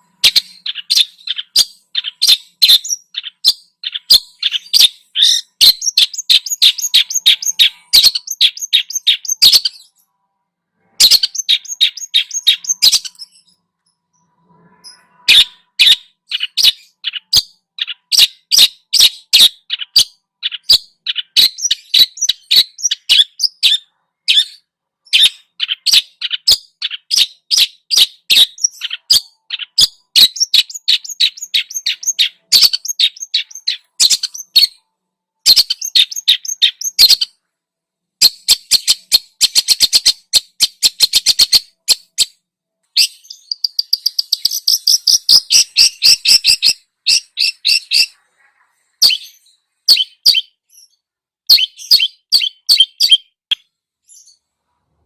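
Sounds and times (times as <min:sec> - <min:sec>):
songbird chattering song: 0:00.0 - 0:10.1, 0:10.8 - 0:37.4, 0:38.2 - 0:42.3, 0:42.9 - 0:54.4.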